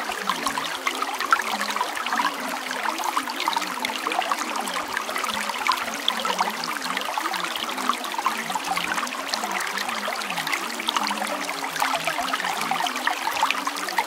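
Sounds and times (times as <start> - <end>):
running water trickling: 0.0 - 14.0.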